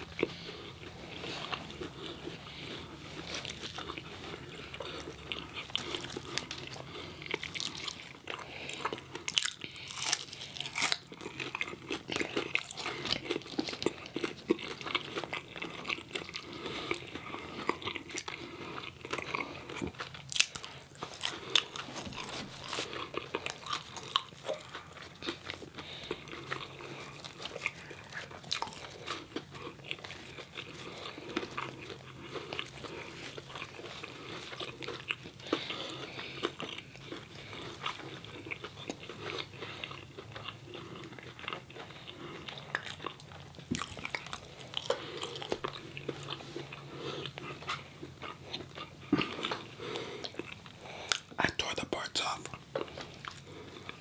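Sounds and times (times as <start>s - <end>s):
crunchy eating and chewing: 0.0s - 54.0s.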